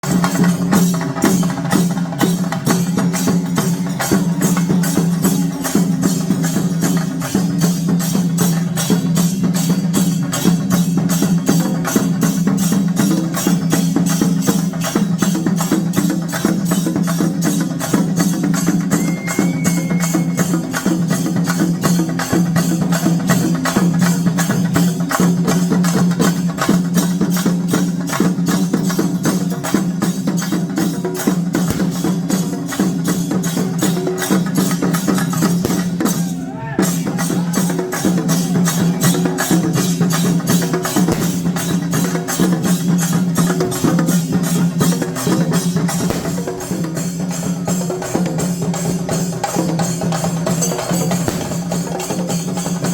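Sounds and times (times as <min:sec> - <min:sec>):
fast drum strokes: 0:00.0 - 0:52.9.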